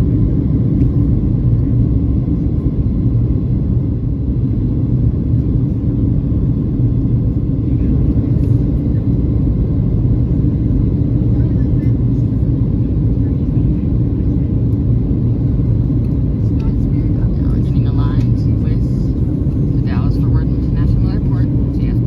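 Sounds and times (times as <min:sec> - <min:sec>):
airflow over fuselage: 0:00.0 - 0:22.0
airplane cabin engine rumble: 0:00.0 - 0:22.0.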